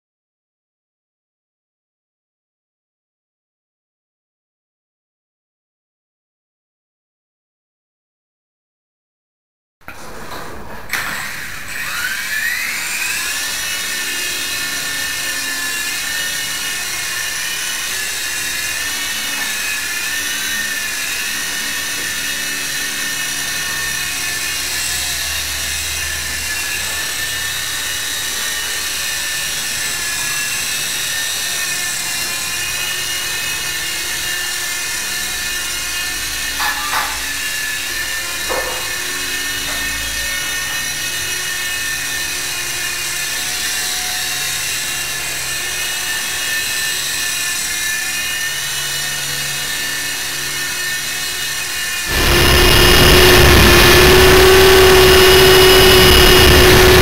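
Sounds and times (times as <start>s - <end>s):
rc helicopter motor whine: 11.0s - 57.0s.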